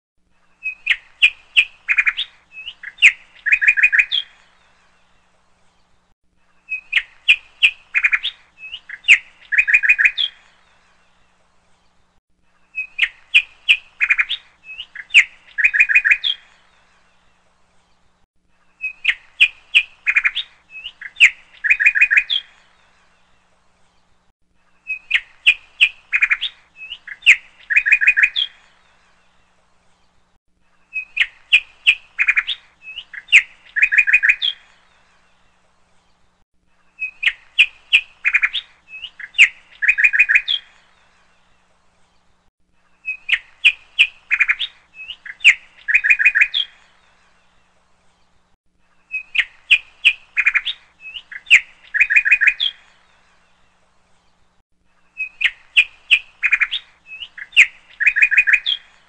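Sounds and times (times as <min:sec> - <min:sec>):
birds chirping and trilling: 0:00.4 - 0:59.0.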